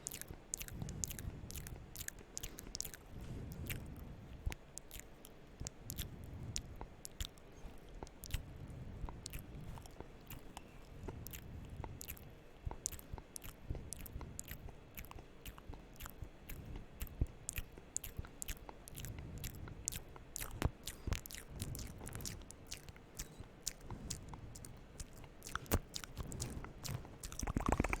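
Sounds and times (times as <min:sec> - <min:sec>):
wet lip and tongue clicks: 0:00.0 - 0:28.0.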